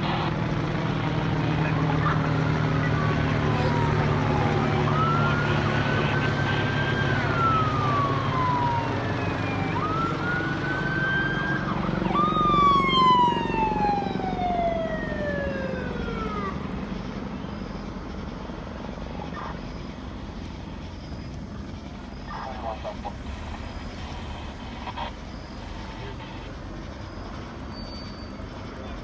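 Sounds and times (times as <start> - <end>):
low steady drone: 0.0 - 27.6
emergency siren wailing: 0.0 - 29.0.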